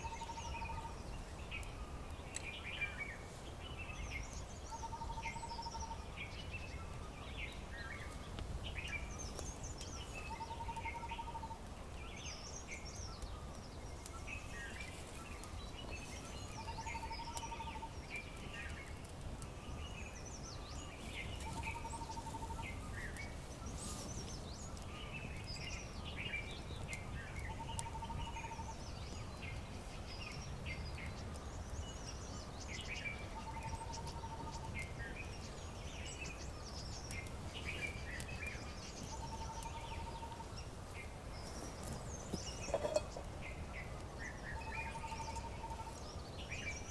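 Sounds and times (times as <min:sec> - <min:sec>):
birds chirping and trilling: 0:00.0 - 0:03.0, 0:03.8 - 0:11.5, 0:12.1 - 0:18.8, 0:19.7 - 0:46.9.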